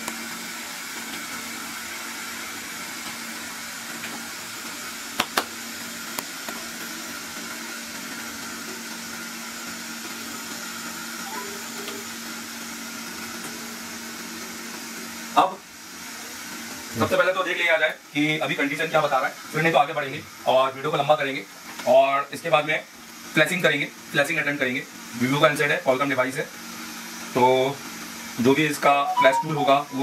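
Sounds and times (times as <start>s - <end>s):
fan-like hiss and electrical hum: 0.0s - 30.0s.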